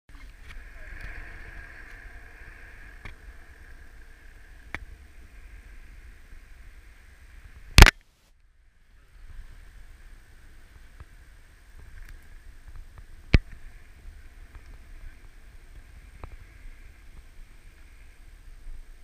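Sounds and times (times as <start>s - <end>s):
scooter wheels rolling on asphalt: 0.1s - 19.0s.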